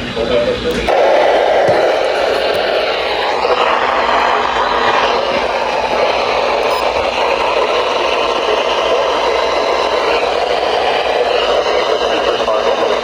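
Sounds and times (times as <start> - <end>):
radio static hiss: 0.7 - 13.0.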